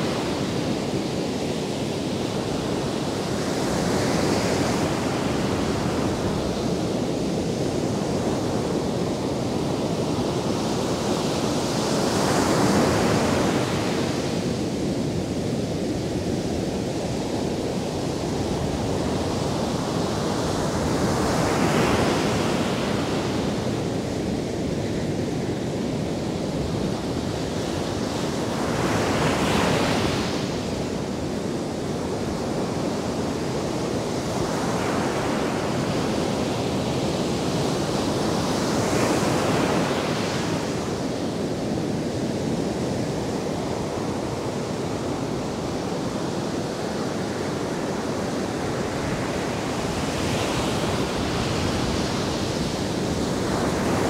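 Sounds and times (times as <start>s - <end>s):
waves crashing on sand: 0.0s - 54.0s.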